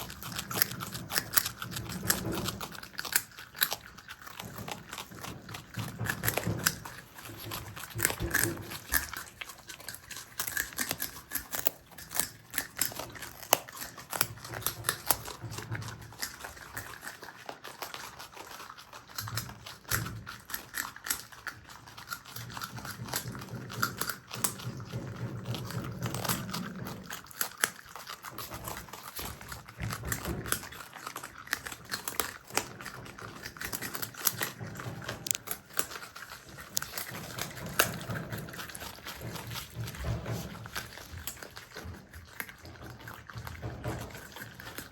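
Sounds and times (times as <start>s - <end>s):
animals chewing crunchily: 0.0s - 44.9s
low rumbling chewing: 0.0s - 44.9s.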